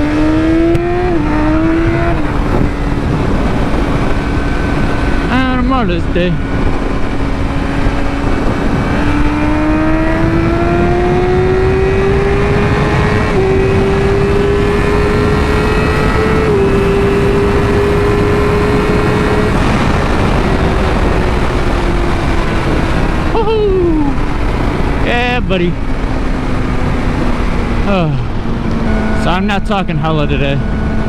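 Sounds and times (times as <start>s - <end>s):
motorcycle engine accelerating: 0.0s - 31.0s
wind rush on microphone: 0.0s - 31.0s.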